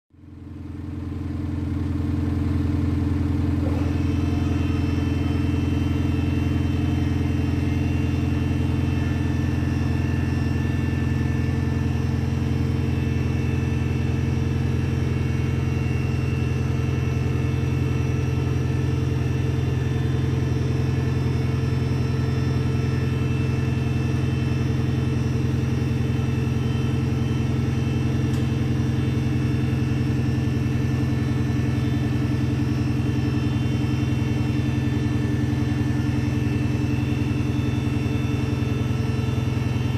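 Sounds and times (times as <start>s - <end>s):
simulated engine idling: 0.2s - 39.9s.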